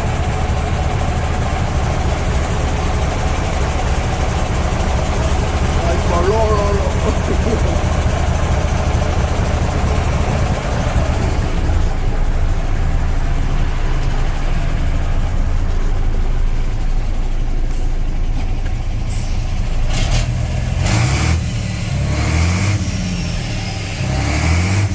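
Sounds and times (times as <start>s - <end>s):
truck diesel engine running: 0.0s - 24.9s.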